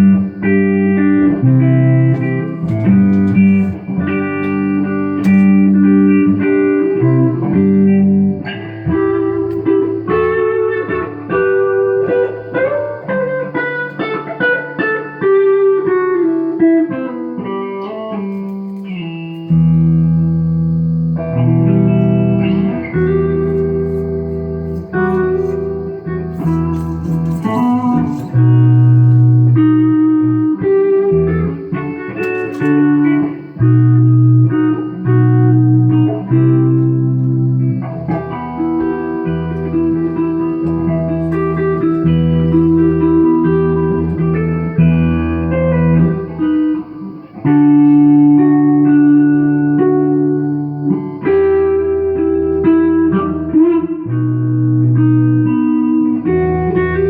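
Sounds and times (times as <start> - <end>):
electric guitar chords and notes: 0.0 - 57.0.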